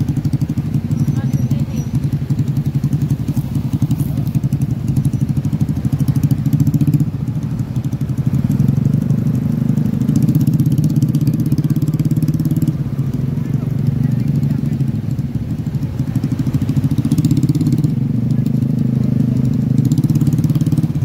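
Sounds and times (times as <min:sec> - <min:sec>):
motorcycle engines at low speed: 0:00.0 - 0:21.0.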